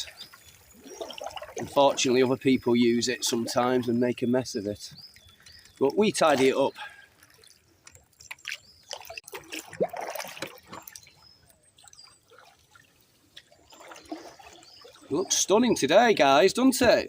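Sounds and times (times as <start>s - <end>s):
paddle splashing water: 0.0s - 16.1s.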